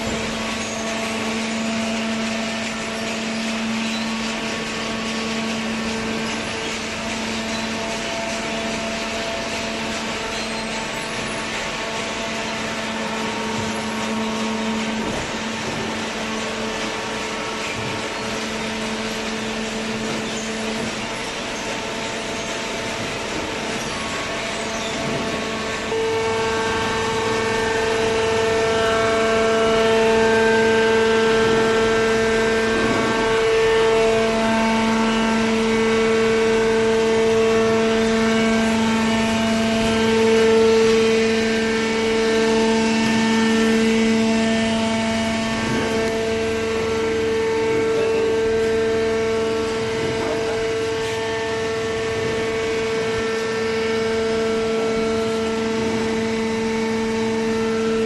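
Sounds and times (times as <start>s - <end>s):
baler machine humming and whining: 0.0s - 58.0s.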